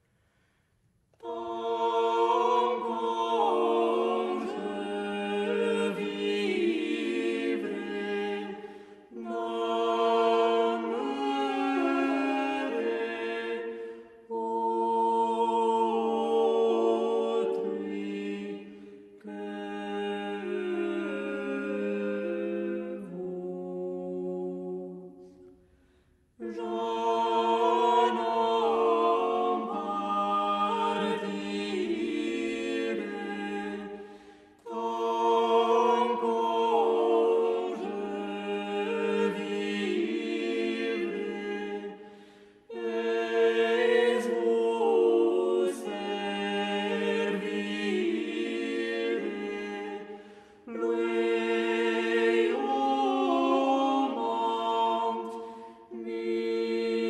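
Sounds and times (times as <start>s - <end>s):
vocal ensemble singing a cappella: 0.0s - 57.0s.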